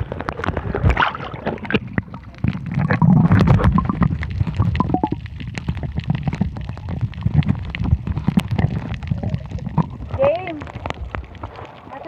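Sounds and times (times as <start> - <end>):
clicks and crackles: 0.0 - 12.0
underwater rumble of moving water: 0.0 - 12.0.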